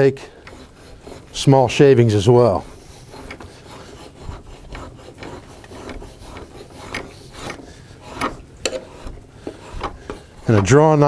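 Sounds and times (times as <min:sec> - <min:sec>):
draw knife scraping wood: 0:00.0 - 0:11.0.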